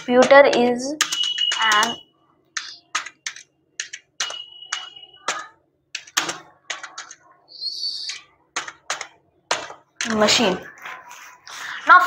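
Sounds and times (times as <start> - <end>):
computer keyboard typing: 0.0 - 10.5.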